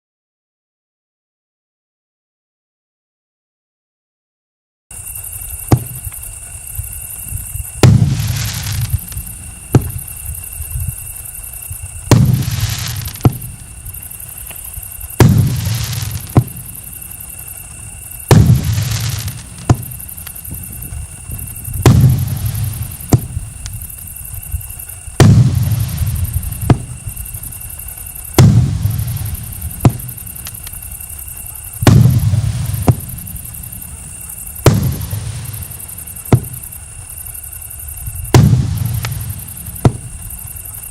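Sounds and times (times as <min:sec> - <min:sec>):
firework shots banging: 0:05.3 - 0:37.4, 0:38.2 - 0:40.9.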